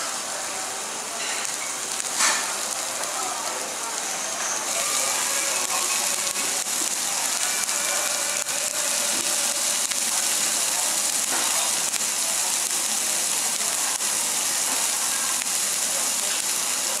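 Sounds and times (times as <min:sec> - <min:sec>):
food sizzling on hot plate: 0:00.0 - 0:17.0.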